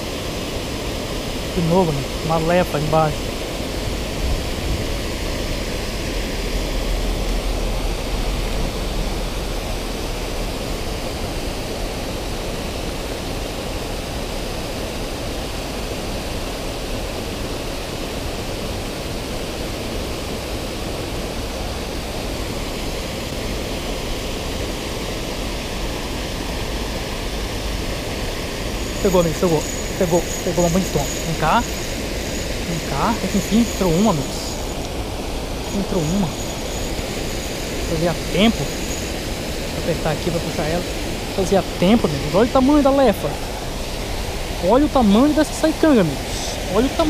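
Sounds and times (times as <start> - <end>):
water rushing over a weir: 0.0 - 47.0.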